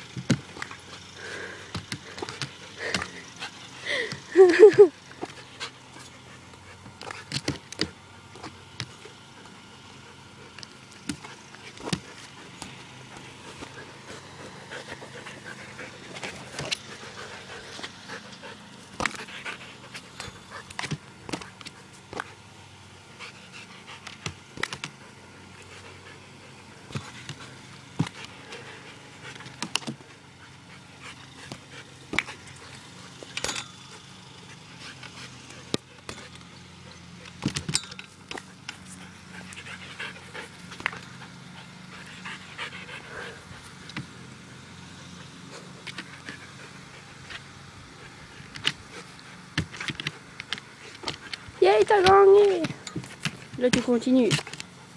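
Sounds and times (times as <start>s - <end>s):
steady low hum: 0.0s - 54.9s
dog panting: 0.4s - 22.4s, 23.1s - 33.4s, 38.3s - 44.2s, 45.0s - 54.9s.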